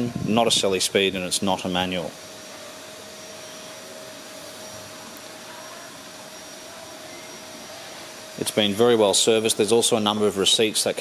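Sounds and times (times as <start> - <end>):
faint constant hum: 0.0 - 11.0
fan blowing air: 0.0 - 11.0.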